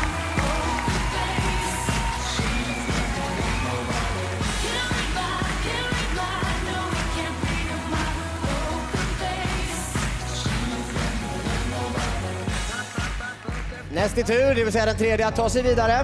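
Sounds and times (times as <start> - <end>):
pop music with sung vocal: 0.0 - 16.0.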